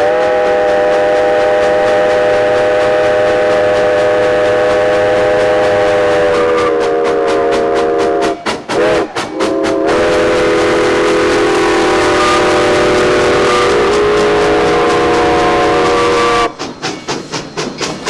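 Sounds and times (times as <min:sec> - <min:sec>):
steam locomotive chime whistle: 0:00.0 - 0:18.0.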